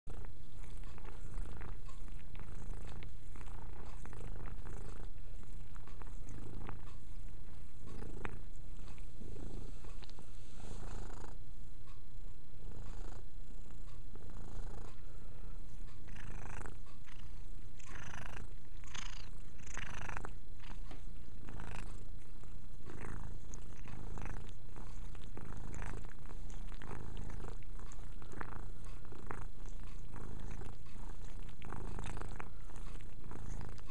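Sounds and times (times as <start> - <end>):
cat licking fur: 0.1 - 11.3, 14.2 - 33.9
cat purring: 0.1 - 33.9.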